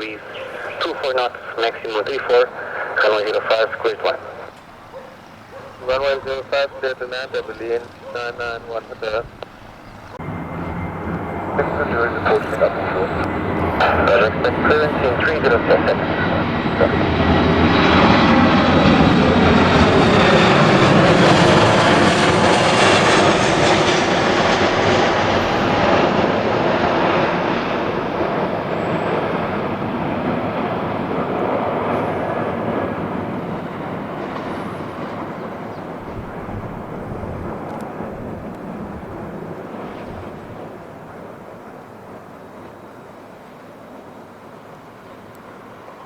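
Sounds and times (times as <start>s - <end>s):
jet airliner engines passing: 0.0s - 46.0s.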